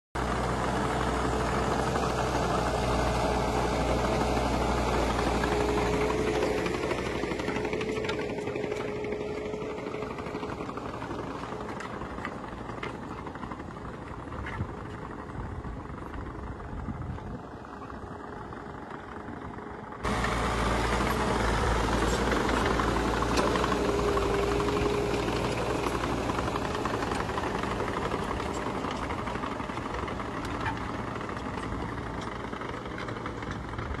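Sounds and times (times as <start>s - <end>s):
tractor engine under load: 0.2s - 34.0s.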